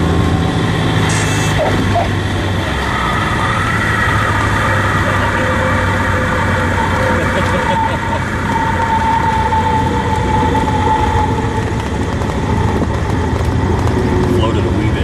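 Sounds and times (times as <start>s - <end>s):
propeller engine drone: 0.0s - 15.0s.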